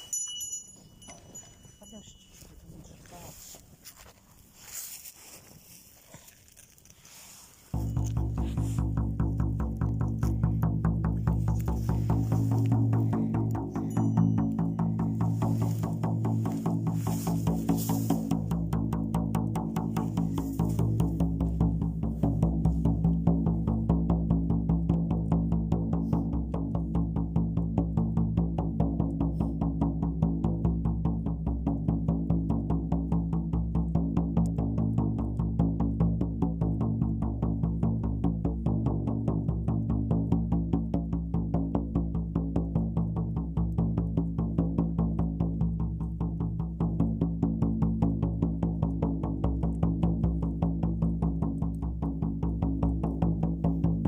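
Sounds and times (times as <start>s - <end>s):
frame drum beaten fast: 7.8s - 54.0s.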